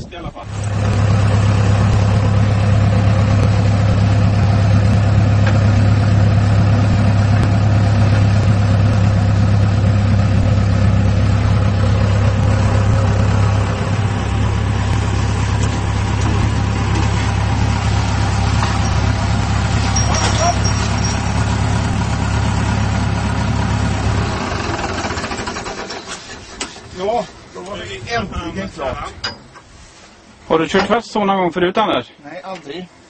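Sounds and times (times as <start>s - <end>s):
tractor engine humming: 0.0s - 31.1s.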